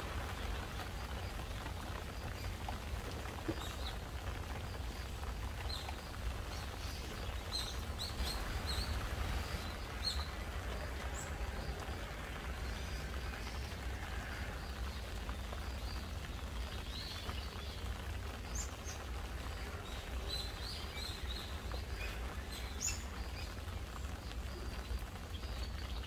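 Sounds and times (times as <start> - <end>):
gentle rain on foliage: 0.0 - 26.0.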